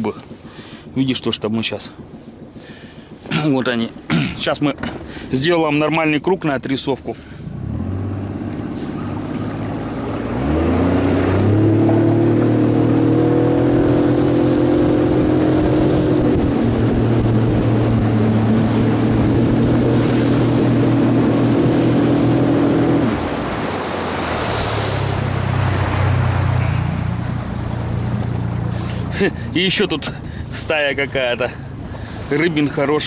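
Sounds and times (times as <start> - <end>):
outboard motor running: 0.0 - 6.2, 6.8 - 33.0.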